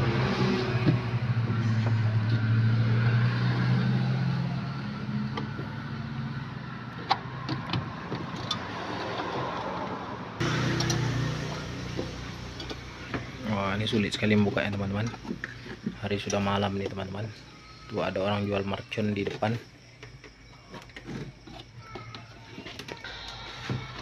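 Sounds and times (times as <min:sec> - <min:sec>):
vehicle engine humming: 0:00.0 - 0:21.8.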